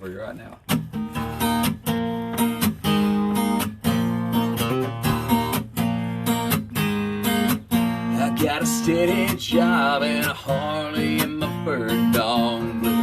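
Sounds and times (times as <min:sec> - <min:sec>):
acoustic guitar strumming: 0:00.4 - 0:13.0.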